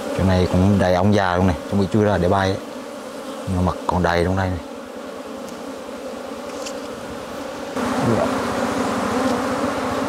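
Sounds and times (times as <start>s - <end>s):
bee passing close by: 0.0s - 10.0s
swarm of bees buzzing: 0.0s - 10.0s.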